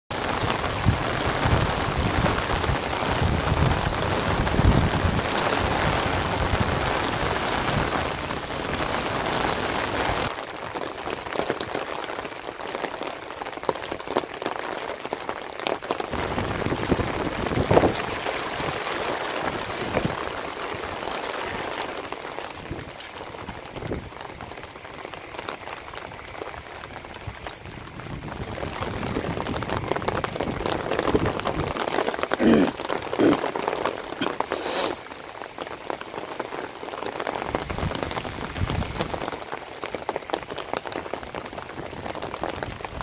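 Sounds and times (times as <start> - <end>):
heavy rain on standing water: 0.1 - 43.0.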